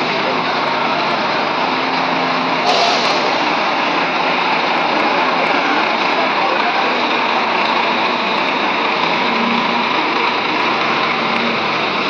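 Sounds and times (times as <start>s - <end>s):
diesel bus engine pulling away: 0.0s - 12.0s.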